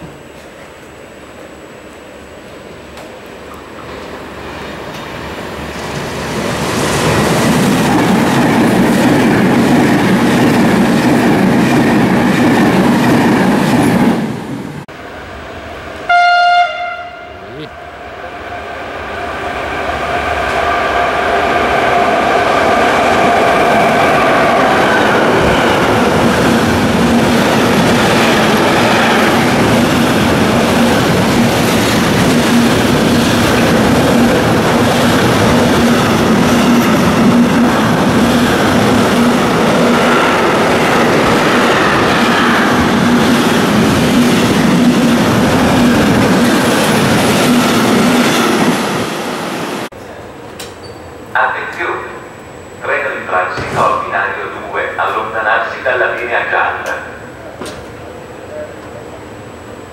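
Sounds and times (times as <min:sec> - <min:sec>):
train passing loudly: 0:00.0 - 0:50.4, 0:51.3 - 0:57.8.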